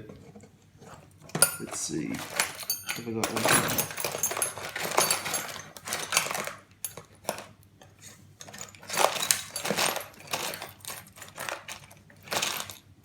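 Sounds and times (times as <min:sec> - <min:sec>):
metal tools clinking: 0:01.3 - 0:07.5, 0:08.4 - 0:12.9.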